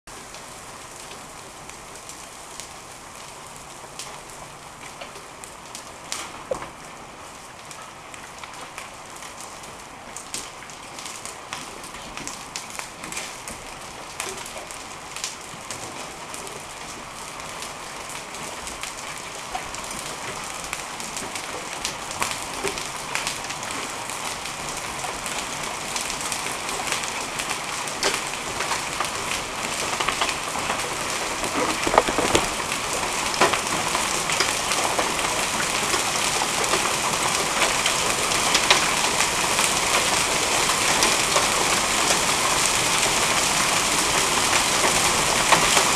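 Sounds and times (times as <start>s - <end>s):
hail and rain on concrete: 0.1s - 45.9s.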